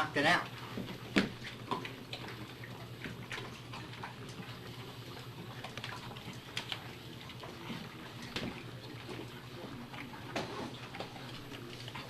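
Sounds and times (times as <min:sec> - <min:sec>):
dog licking and eating: 0:00.4 - 0:12.0.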